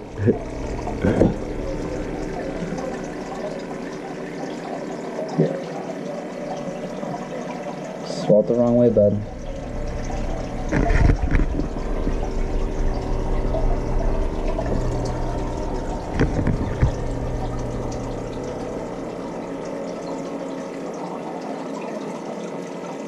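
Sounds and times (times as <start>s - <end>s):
aquarium pump humming: 0.0s - 23.0s
water running: 0.0s - 23.0s.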